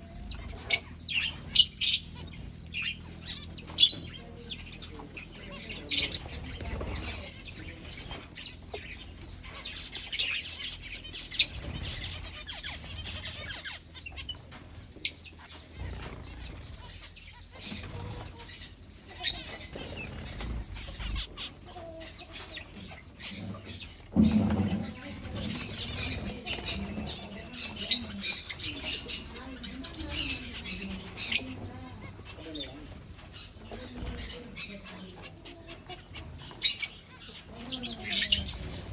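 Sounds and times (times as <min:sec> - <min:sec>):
finches chirping: 0:00.0 - 0:38.9
wings fluttering: 0:00.0 - 0:38.9.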